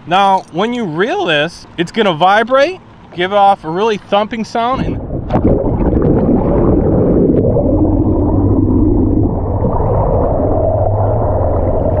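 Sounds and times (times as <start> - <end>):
low steady hum: 0.0 - 12.0
muffled underwater water rush: 0.0 - 12.0.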